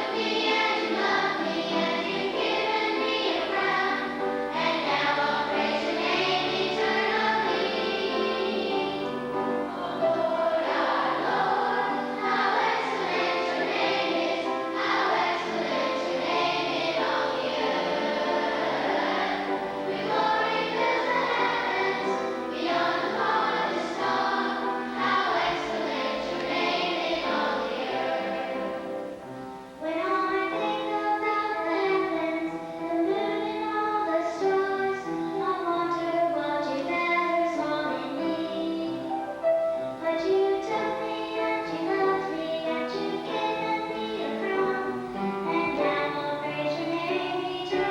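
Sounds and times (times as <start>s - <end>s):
choir singing: 0.0s - 39.3s, 40.0s - 47.9s.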